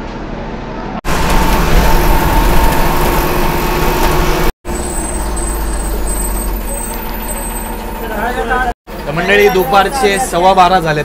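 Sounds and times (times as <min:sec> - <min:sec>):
road noise: 0:00.0 - 0:11.0
bus engine running: 0:01.0 - 0:11.0.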